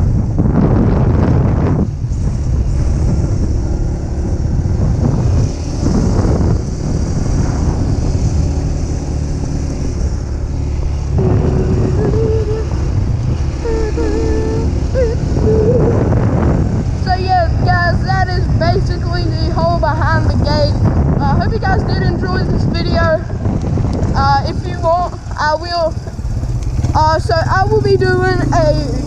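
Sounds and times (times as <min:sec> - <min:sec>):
dirt bike engine running: 0:00.0 - 0:29.0
wind buffeting microphone: 0:00.0 - 0:29.0.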